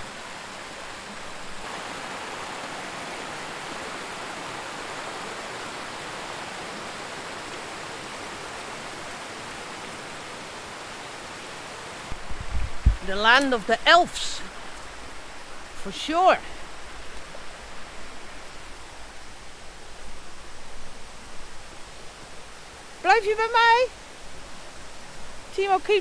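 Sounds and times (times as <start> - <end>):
flowing stream water: 0.0 - 26.0.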